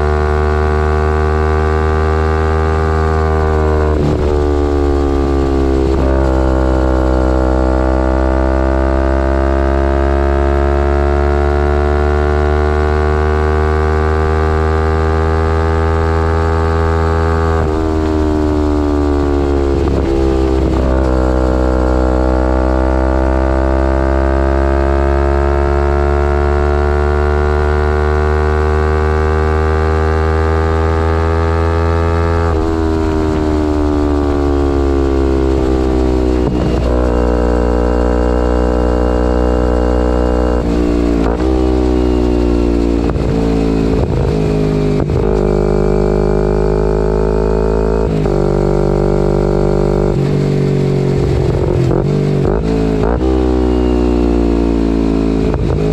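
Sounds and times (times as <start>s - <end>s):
motorcycle engine exhaust note: 0.0s - 55.9s.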